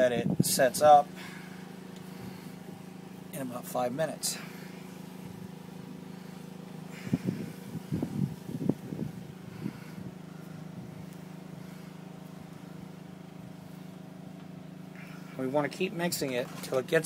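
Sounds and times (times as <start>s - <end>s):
low buzzing mechanical hum: 0.0s - 17.0s.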